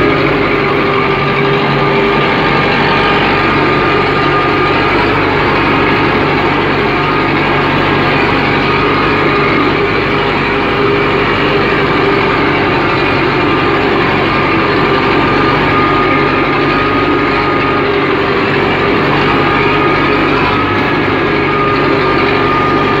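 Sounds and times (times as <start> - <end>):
steady high whine: 0.0 - 23.0
tractor diesel engine running: 0.0 - 23.0.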